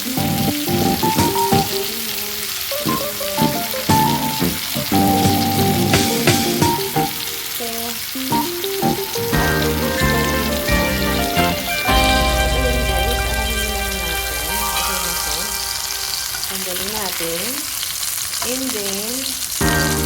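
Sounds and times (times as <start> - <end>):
background music: 0.0 - 2.1, 2.7 - 16.7, 19.6 - 20.0
food sizzling in a pan: 0.0 - 20.0.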